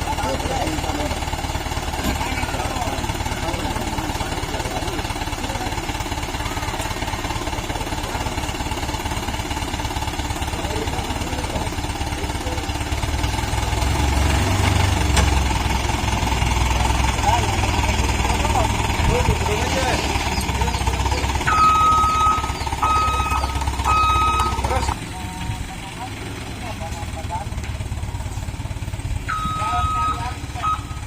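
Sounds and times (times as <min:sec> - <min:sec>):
diesel truck engine clattering: 0:00.0 - 0:31.0.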